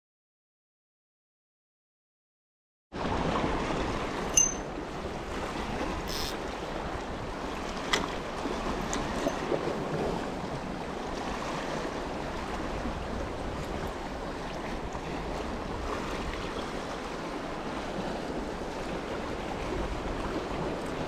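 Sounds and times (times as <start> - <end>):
wind rumbling on microphone: 3.0 - 21.0
waves splashing against rocks: 3.1 - 21.0.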